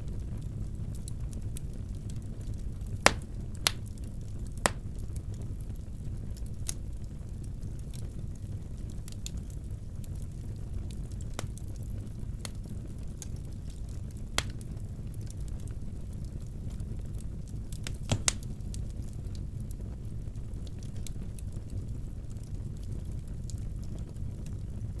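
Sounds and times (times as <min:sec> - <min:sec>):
fire crackling and popping: 0:00.1 - 0:25.0
fire rumbling: 0:00.1 - 0:25.0.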